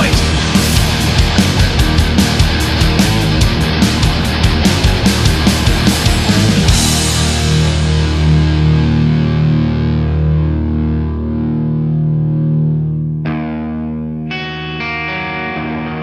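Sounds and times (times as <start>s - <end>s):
distorted electric guitar chord: 0.0s - 16.0s
rock band with drums: 0.0s - 16.0s.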